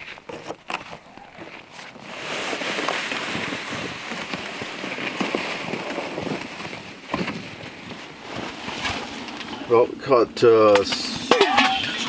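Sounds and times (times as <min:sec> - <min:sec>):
footsteps crunching in snow: 0:00.0 - 0:09.7
plastic sled scraping over snow: 0:00.0 - 0:12.0.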